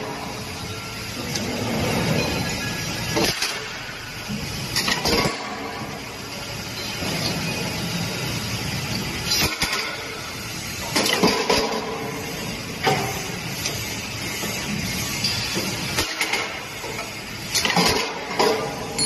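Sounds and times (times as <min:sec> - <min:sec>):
steady machine noise: 0:00.0 - 0:19.0.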